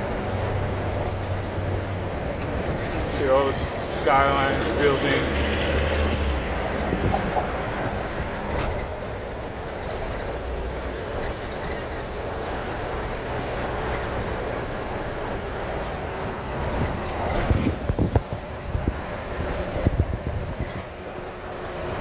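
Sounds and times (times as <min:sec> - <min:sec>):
truck road and engine rumble: 0:00.0 - 0:22.0.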